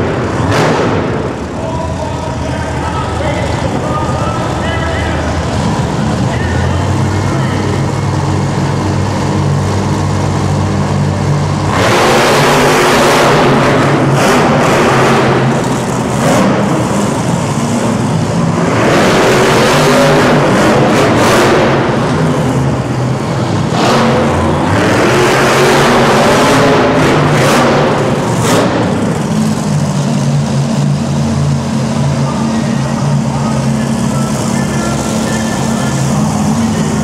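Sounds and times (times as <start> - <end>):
truck engine idling and revving: 0.0 - 37.0.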